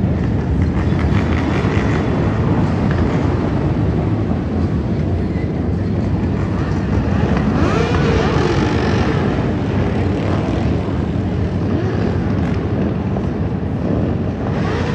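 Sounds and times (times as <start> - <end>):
motorcycle engines revving: 0.0 - 14.9.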